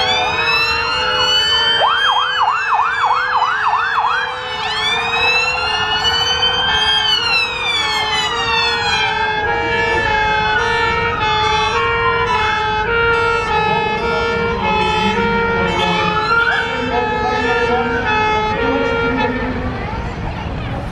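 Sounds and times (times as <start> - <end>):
wailing siren: 0.0 - 20.6
two-tone sirens: 0.0 - 20.9.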